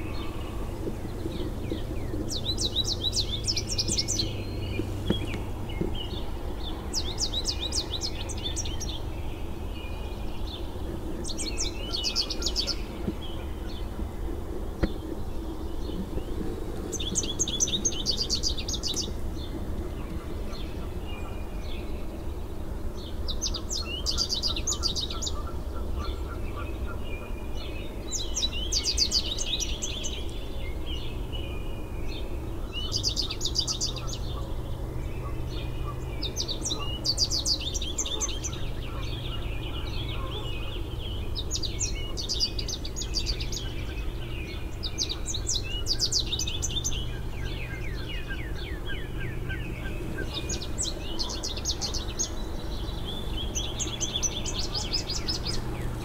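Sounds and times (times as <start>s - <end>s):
low background hum: 0.0s - 56.0s
songbird singing: 0.0s - 56.0s.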